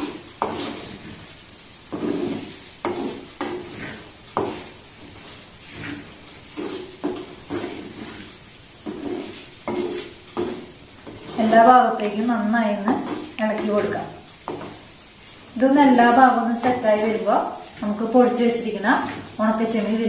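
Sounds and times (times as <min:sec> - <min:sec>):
hot oil sizzling: 0:00.0 - 0:20.0
wooden spatula scraping clay pot: 0:00.0 - 0:20.0.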